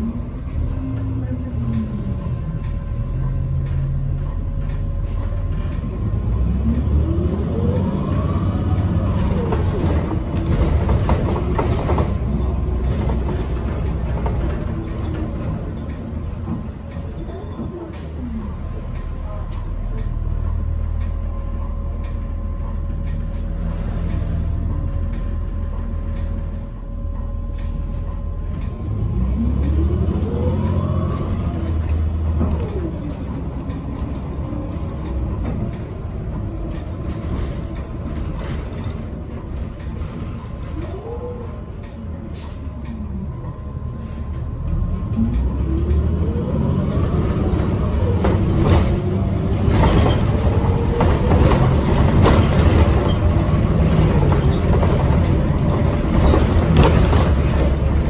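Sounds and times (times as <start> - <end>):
bus drivetrain whine: 0.0 - 58.0
bus engine rumble: 0.0 - 58.0.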